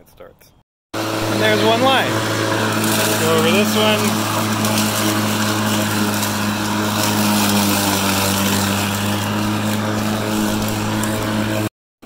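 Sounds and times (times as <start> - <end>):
electric lawn mower humming: 1.0 - 11.7.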